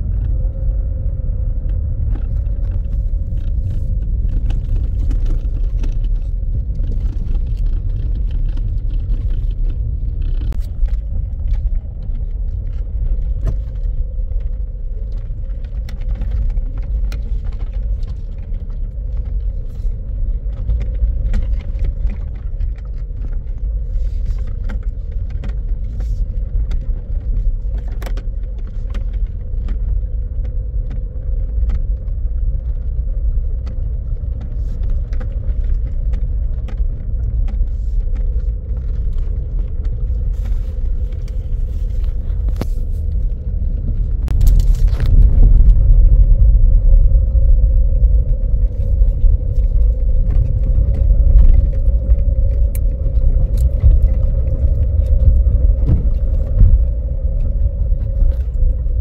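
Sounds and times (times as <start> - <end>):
vehicle rumbling on rough road: 0.0 - 59.0.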